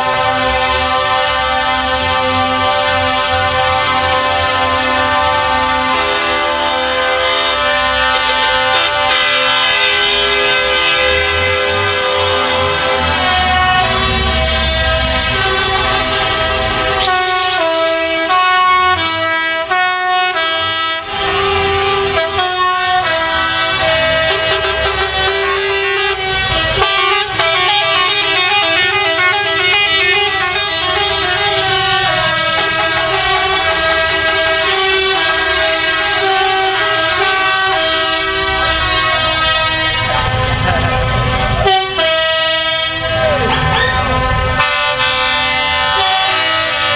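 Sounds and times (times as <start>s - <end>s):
low rumble of truck engines: 0.0s - 46.9s
musical air horn playing tune: 0.0s - 46.9s.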